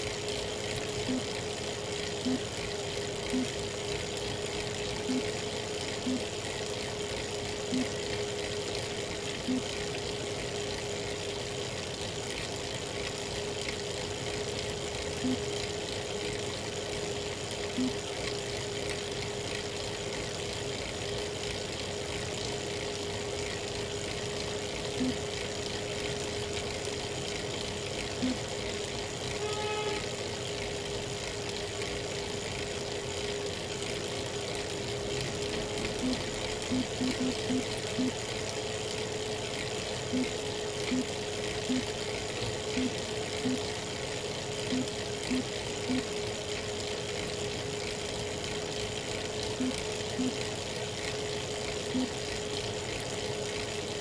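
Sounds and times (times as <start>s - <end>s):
bike trainer whining: 0.0s - 54.0s.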